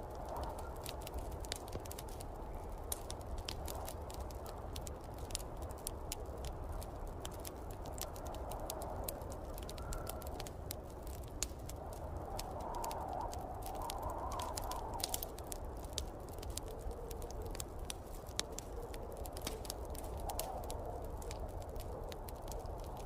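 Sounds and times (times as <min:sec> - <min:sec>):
snowstorm wind blowing: 0:00.0 - 0:23.0
wood fire crackling and popping: 0:00.0 - 0:23.0.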